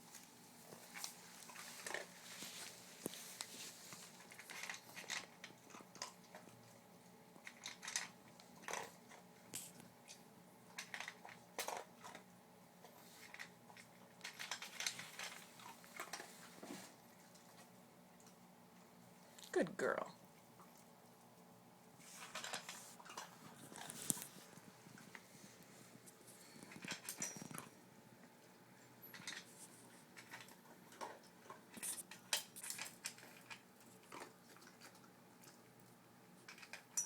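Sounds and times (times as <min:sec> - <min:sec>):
dog crunching and chewing food: 0:00.0 - 0:19.4, 0:20.1 - 0:37.0.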